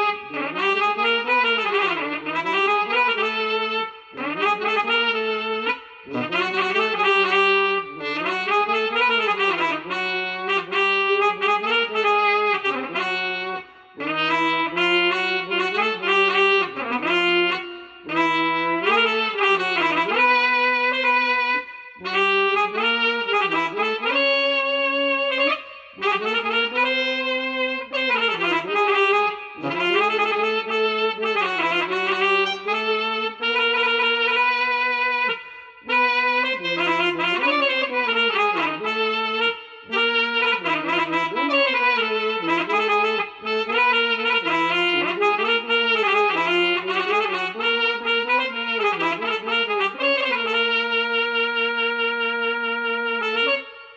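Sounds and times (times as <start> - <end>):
reedy wind instrument melody: 0.0 - 53.9.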